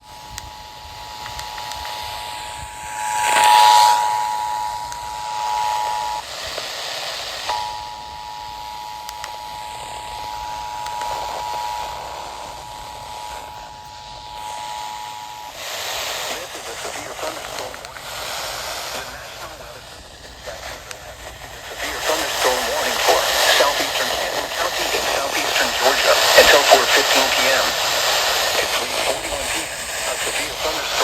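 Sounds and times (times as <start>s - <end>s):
radio static hiss: 0.0s - 31.0s
two-tone alarm: 0.0s - 31.0s.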